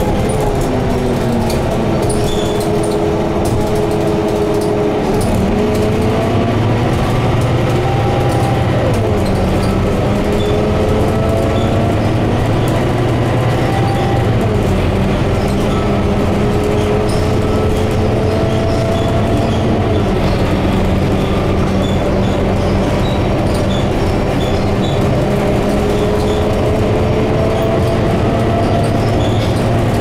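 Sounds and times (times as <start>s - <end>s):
bus engine and road noise: 0.0s - 30.0s
interior ticking rattles: 0.0s - 30.0s.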